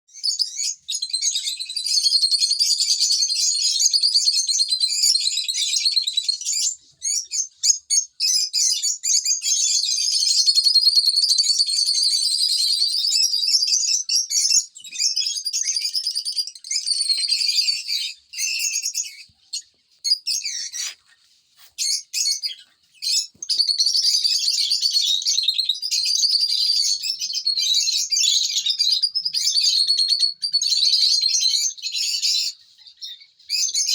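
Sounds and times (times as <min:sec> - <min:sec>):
small parrots chirping: 0:00.1 - 0:33.9.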